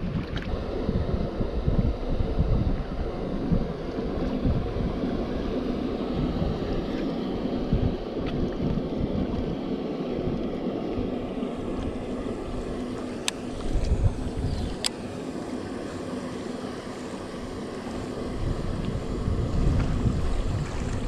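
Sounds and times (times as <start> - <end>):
wind buffeting microphone: 0.0 - 15.0, 17.2 - 21.0.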